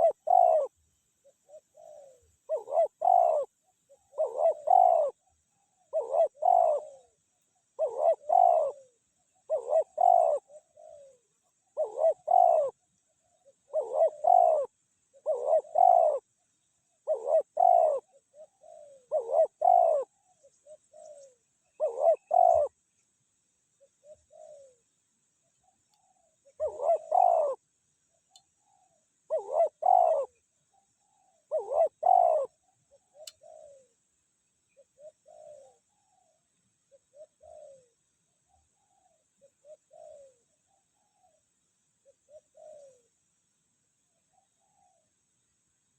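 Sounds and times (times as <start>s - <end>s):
dove cooing: 0.0s - 22.8s, 23.8s - 25.0s, 25.6s - 27.7s, 28.4s - 34.0s, 34.7s - 43.2s, 44.3s - 45.2s.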